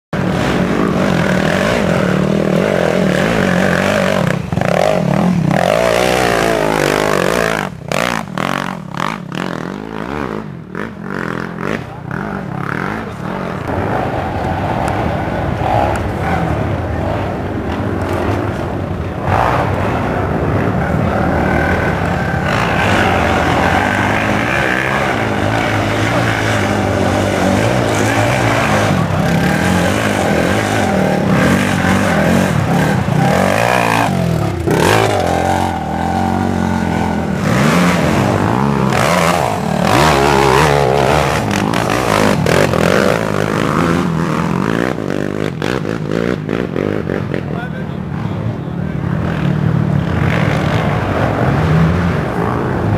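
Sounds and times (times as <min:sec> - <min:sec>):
quad engines revving: 0:00.2 - 0:52.9.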